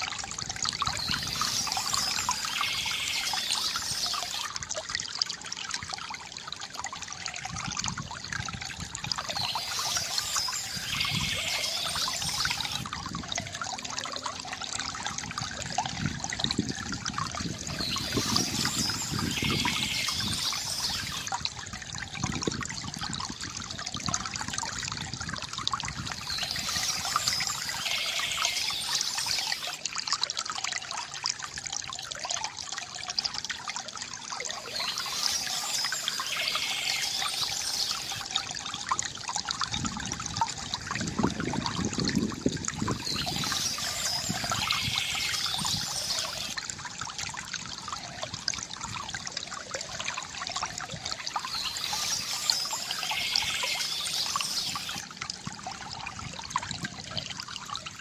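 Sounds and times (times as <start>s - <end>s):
water gurgling: 0.0s - 58.0s
water trickling and splashing: 0.0s - 58.0s.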